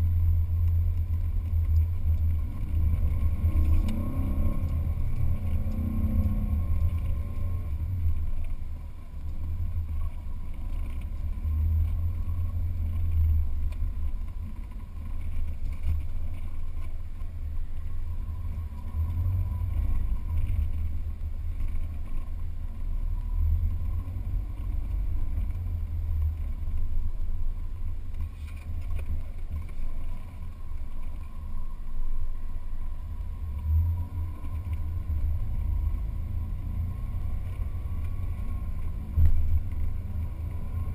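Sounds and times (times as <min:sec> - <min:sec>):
vehicle running noise: 0:00.0 - 0:40.9.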